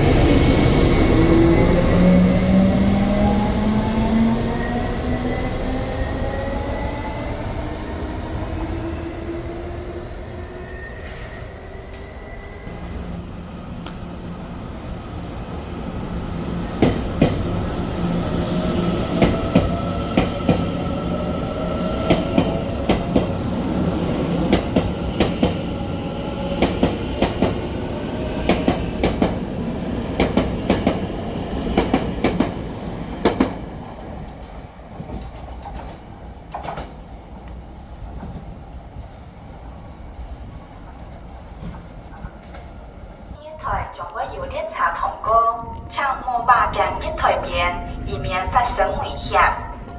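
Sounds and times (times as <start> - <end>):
train hum and whine: 0.0 - 49.9.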